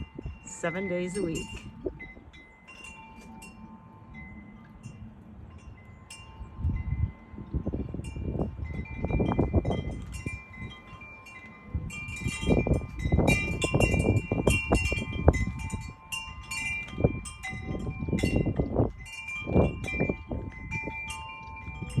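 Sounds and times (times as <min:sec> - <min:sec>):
wind chimes ringing: 0:00.0 - 0:22.0
wind rumbling on microphone: 0:00.0 - 0:22.0.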